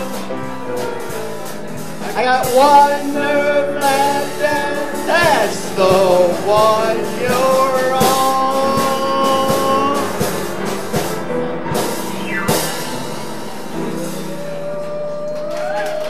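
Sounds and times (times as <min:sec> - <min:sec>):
drum hits: 0:00.0 - 0:14.8
live blues band playing: 0:00.0 - 0:16.0.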